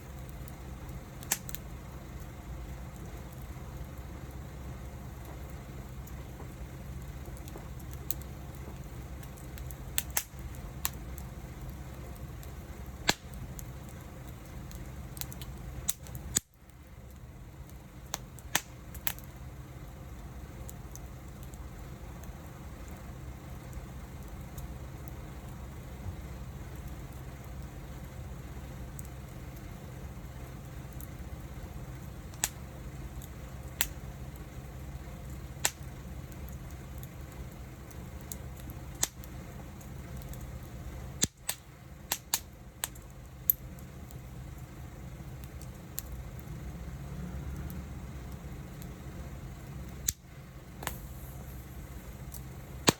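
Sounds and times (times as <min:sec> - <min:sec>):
fire flame rushing: 0:00.0 - 0:52.9
wood crackling and popping: 0:00.0 - 0:52.9.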